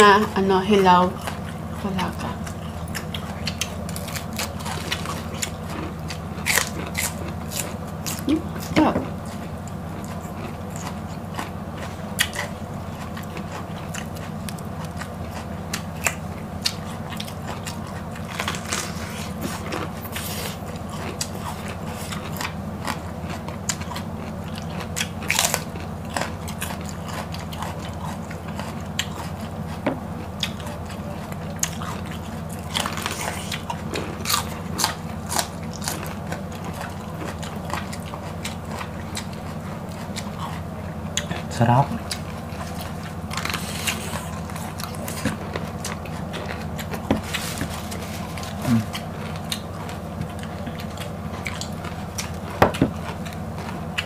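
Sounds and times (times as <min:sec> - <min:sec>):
chewing crunchy vegetables: 0:00.0 - 0:54.0
steady low hum: 0:00.0 - 0:54.0.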